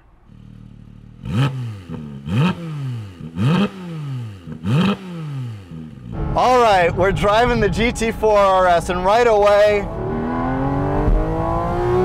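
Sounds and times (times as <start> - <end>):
sports car engine idling and revving: 0.1 - 12.0.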